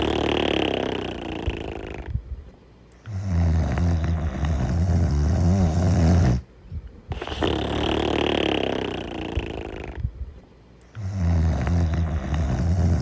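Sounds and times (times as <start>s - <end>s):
dog character snoring: 0.0s - 2.2s, 3.0s - 6.5s, 7.1s - 10.0s, 10.9s - 13.0s.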